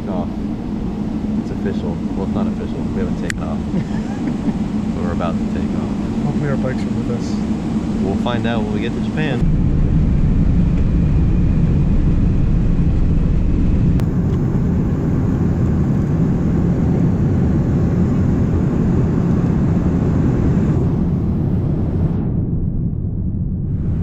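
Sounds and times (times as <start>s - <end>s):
jet engines roaring in cabin: 0.0s - 24.0s.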